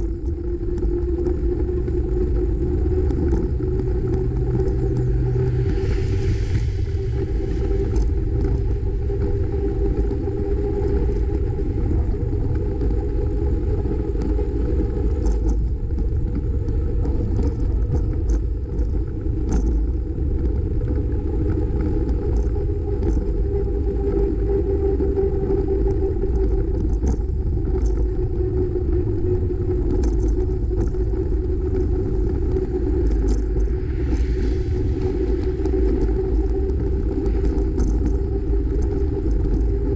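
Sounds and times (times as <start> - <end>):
bicycle tyre road vibration: 0.0 - 39.9
wind rumble on microphone: 0.0 - 39.9.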